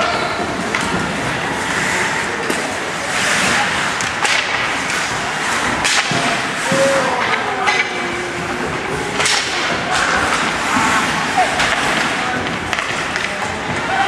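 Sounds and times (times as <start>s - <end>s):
hockey sticks and puck clacking: 0.0s - 14.0s
skate blades scraping ice: 0.2s - 7.2s, 8.0s - 14.0s.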